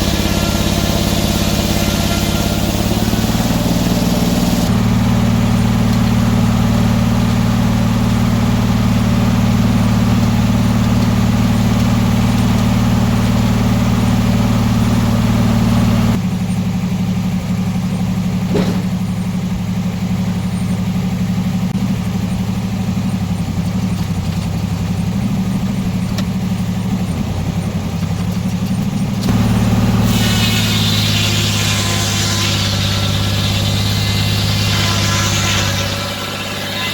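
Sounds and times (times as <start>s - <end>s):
engine running: 0.0s - 36.9s.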